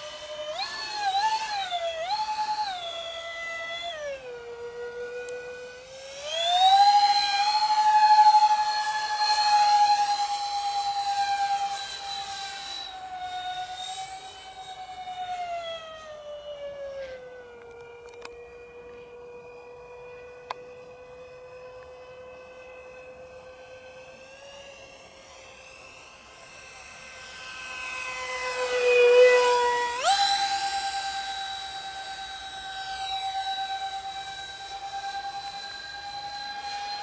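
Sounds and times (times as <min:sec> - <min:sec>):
electric ducted fan whining: 0:00.0 - 0:37.0.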